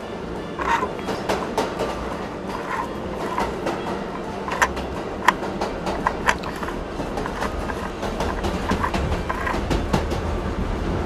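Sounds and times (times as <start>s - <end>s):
toy train rolling on wooden track: 0.0s - 10.4s.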